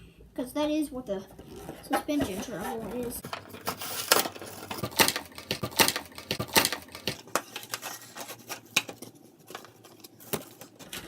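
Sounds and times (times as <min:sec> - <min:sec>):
plastic and cardboard packaging crackling: 0:01.4 - 0:11.0.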